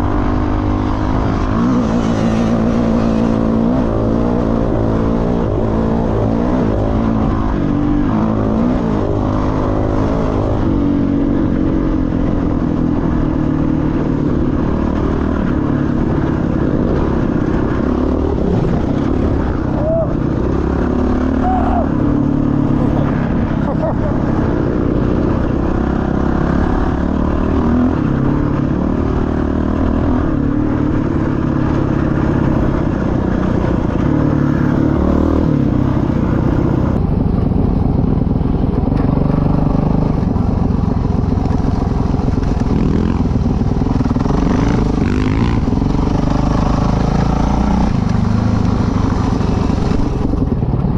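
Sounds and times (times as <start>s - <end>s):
dirt bike engine revving: 0.0s - 37.0s, 38.8s - 50.5s.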